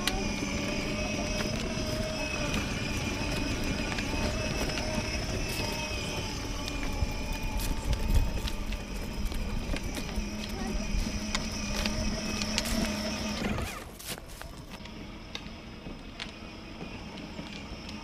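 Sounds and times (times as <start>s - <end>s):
electric motor whine: 0.0s - 18.0s
wheels rumbling on gravel: 0.0s - 18.0s.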